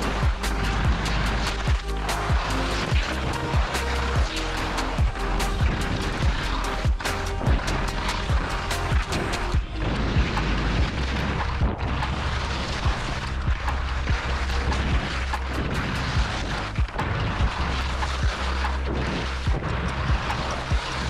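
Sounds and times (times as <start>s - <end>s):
skis scraping over snow: 0.0s - 21.0s
wind buffeting microphone: 0.0s - 21.0s.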